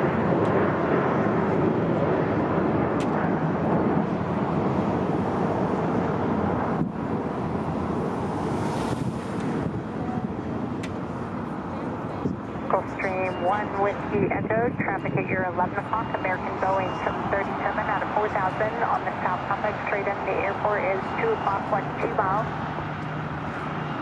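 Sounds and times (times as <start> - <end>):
wind buffeting microphone: 0.0 - 19.9
aircraft engine noise: 0.0 - 24.0.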